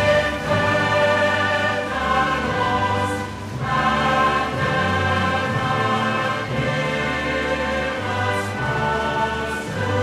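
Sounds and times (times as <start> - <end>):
choir and orchestra music: 0.0 - 10.0.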